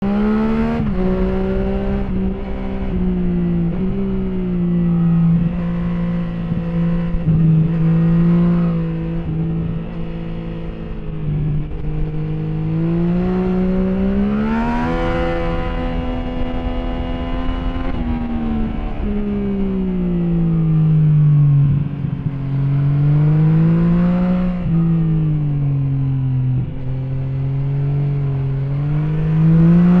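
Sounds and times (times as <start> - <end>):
vehicle engine revving: 0.0 - 20.7, 26.6 - 30.0.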